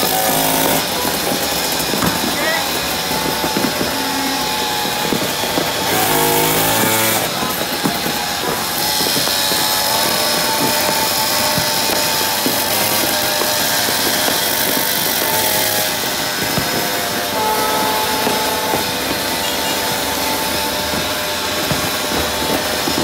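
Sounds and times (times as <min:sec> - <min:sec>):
fireworks and firecrackers banging: 0:00.0 - 0:23.0.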